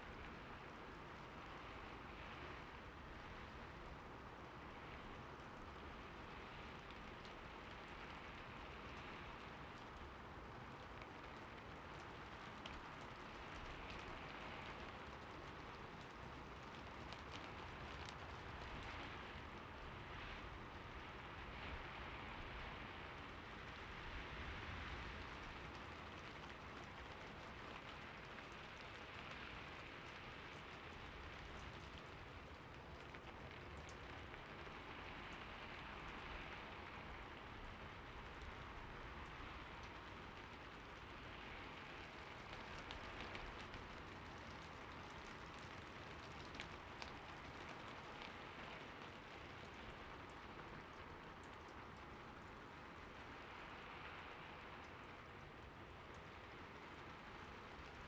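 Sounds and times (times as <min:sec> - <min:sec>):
steady rain hiss: 0:00.0 - 0:58.0
rain drop ticks: 0:04.4 - 0:58.0.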